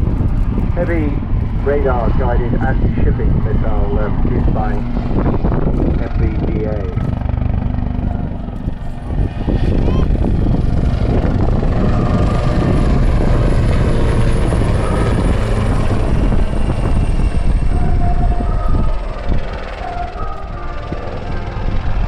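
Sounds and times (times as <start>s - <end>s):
faint high turbine whine: 0.0s - 22.0s
helicopter rotor noise: 0.0s - 22.0s.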